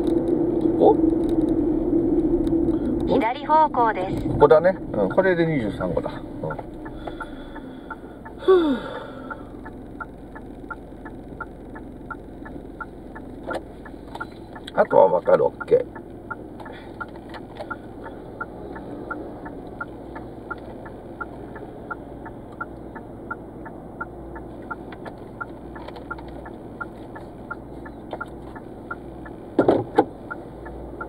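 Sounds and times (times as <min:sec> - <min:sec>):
car cabin hum: 0:00.0 - 0:31.0
turn signal ticking: 0:00.0 - 0:31.0.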